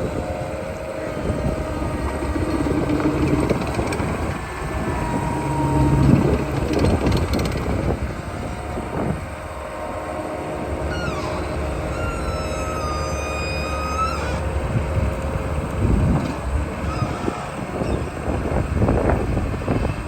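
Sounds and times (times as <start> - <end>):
diesel engine running: 0.0 - 20.0
falling whine: 0.0 - 20.0.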